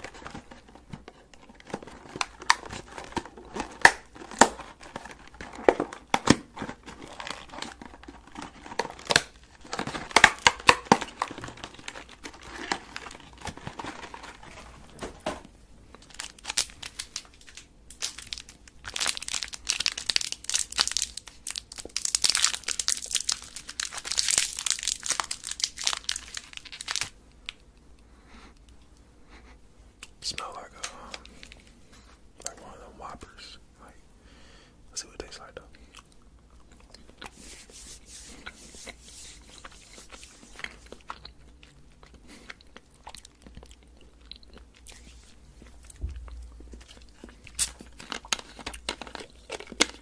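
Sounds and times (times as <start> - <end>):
candy packaging crinkling: 0.0 - 15.2, 15.8 - 27.8, 30.0 - 34.0, 35.0 - 50.0.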